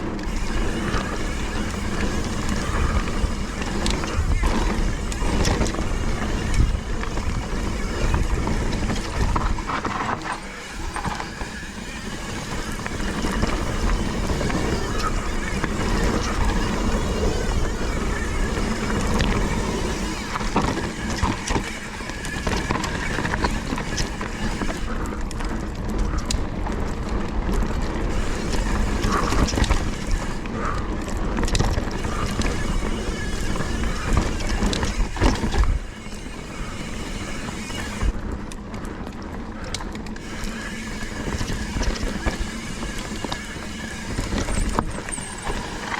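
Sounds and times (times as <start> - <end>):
bike rattling and knocking: 0.0 - 45.9
bike tyre noise: 0.0 - 45.9.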